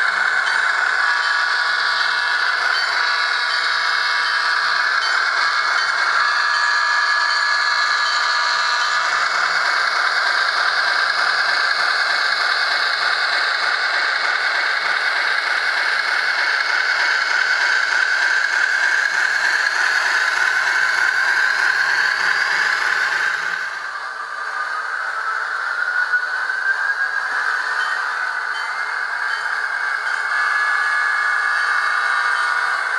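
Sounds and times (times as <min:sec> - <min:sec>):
model train diesel engine sound: 0:00.0 - 0:32.9.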